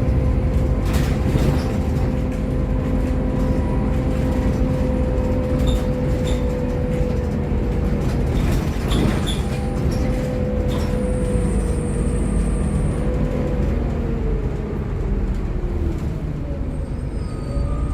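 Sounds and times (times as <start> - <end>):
bus diesel engine droning: 0.0 - 17.9.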